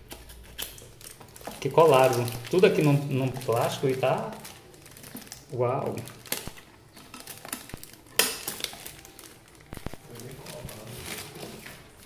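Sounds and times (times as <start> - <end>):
plastic wrapping crinkling: 0.0 - 12.0
scissors cutting plastic: 0.0 - 12.0.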